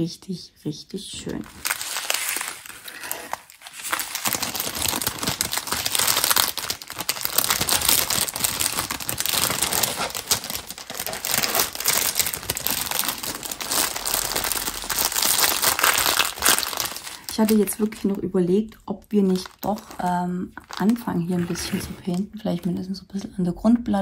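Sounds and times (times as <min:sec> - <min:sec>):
plastic bags crackling and rustling: 0:01.2 - 0:23.2.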